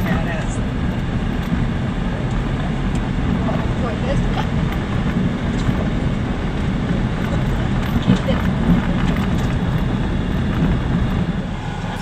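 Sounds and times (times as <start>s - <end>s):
car engine running: 0.0s - 12.0s
tyres rumbling on gravel: 0.0s - 12.0s.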